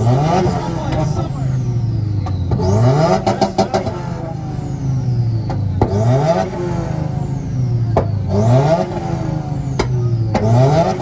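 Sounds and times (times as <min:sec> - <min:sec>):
car engine revving on limiter: 0:00.0 - 0:11.0
sharp exhaust pops: 0:00.0 - 0:11.0.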